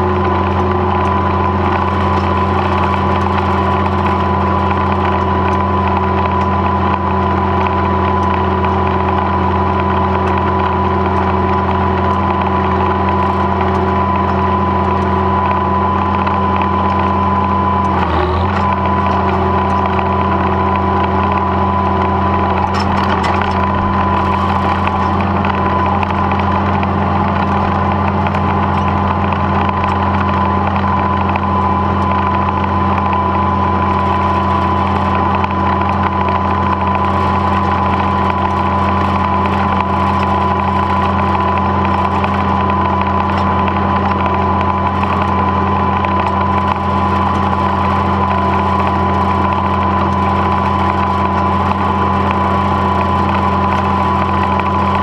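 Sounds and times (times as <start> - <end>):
tractor engine drone: 0.0 - 55.0.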